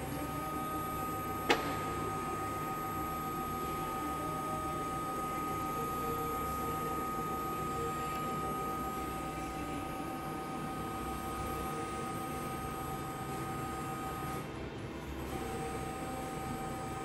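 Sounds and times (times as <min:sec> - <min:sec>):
machine electric hum and whine: 0:00.0 - 0:17.0.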